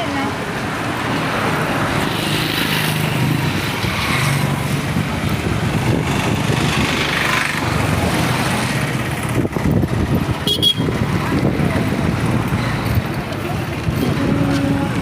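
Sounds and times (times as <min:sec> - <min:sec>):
roadway hiss: 0:00.0 - 0:15.0
vehicle engines passing: 0:00.0 - 0:15.0.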